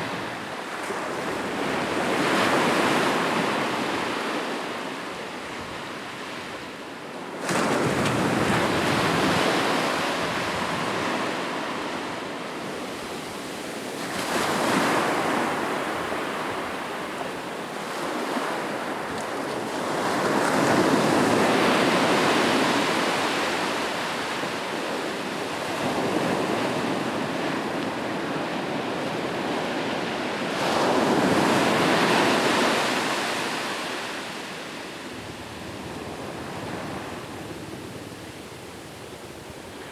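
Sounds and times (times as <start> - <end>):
waves crashing on beach: 7.3 - 39.9.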